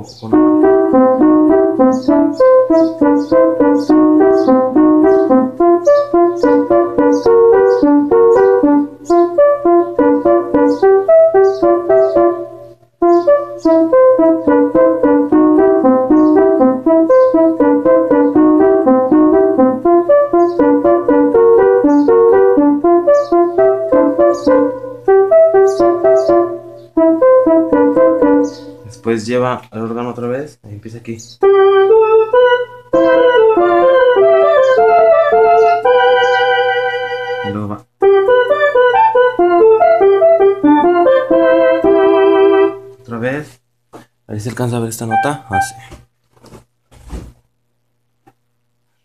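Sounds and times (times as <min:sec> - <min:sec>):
electronic keyboard melody: 0:00.0 - 0:29.3, 0:31.4 - 0:43.2, 0:44.8 - 0:45.9.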